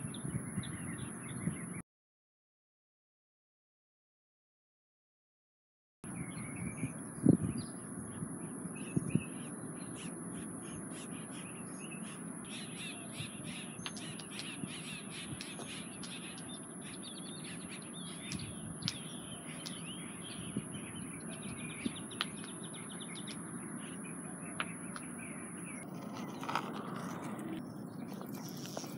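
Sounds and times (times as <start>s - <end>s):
birds chirping and calling: 0.0s - 1.8s, 6.1s - 28.9s
outdoor noise: 0.0s - 1.8s, 6.0s - 28.9s.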